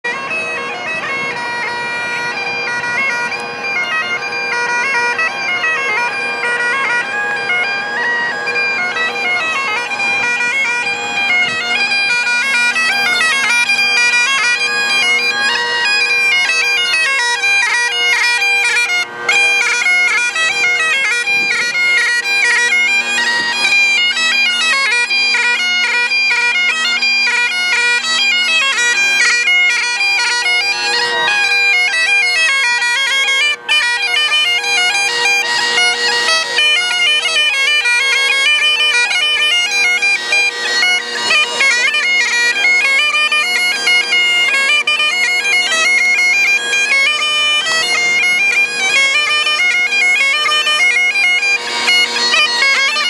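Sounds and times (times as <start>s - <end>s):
bagpipes playing a tune: 0.0s - 53.0s.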